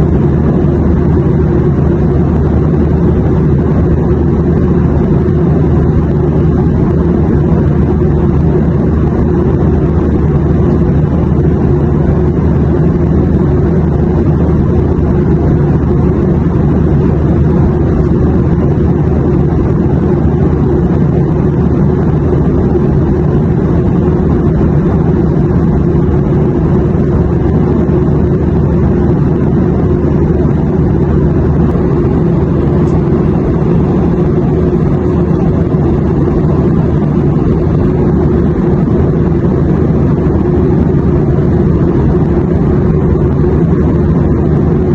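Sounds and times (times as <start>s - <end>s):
airplane drone in flight: 0.0s - 44.9s.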